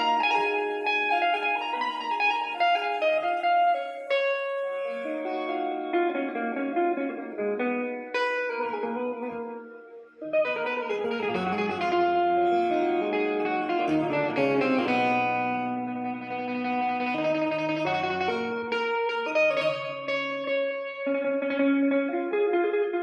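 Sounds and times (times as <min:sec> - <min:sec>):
plucked string instrumental music: 0:00.0 - 0:23.0.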